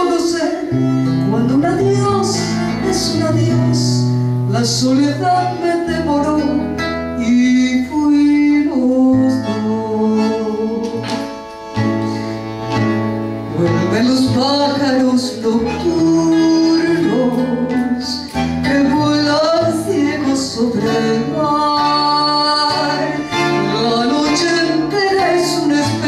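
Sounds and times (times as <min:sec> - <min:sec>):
instrumental accompaniment: 0:00.0 - 0:26.0.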